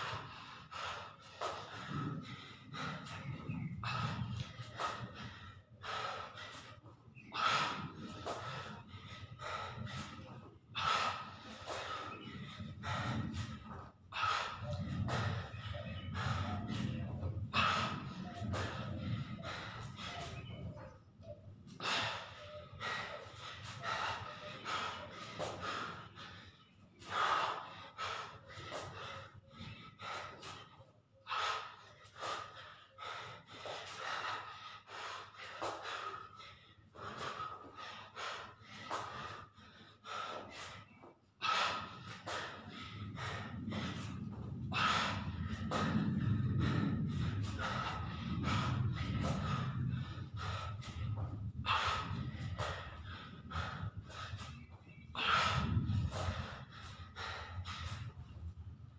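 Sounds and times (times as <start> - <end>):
man breathing hard: 0.0 - 58.9.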